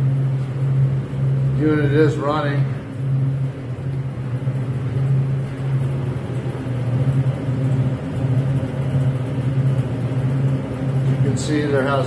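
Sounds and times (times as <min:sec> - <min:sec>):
cooler fans humming: 0:00.0 - 0:12.0.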